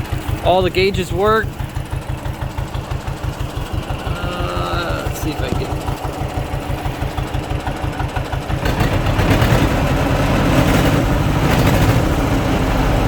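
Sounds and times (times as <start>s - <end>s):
tractor engine putt-putt idling: 0.0s - 13.0s.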